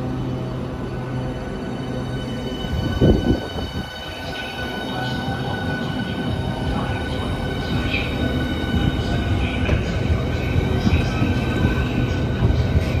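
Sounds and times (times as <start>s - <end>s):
train traction whine: 0.0s - 13.0s
wheels rumbling on rails: 0.0s - 13.0s.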